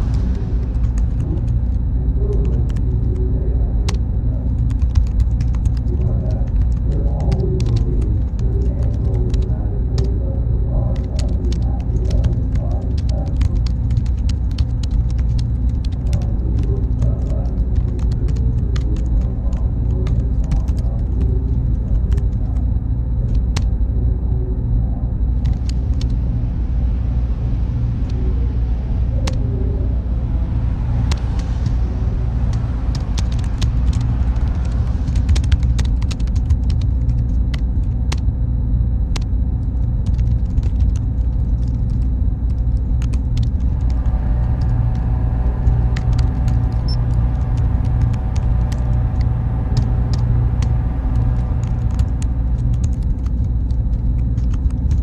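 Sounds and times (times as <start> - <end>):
thin high whine: 0.0 - 40.0, 41.4 - 55.0
faint multi-tone hum: 0.0 - 55.0
server room rumble: 0.0 - 55.0.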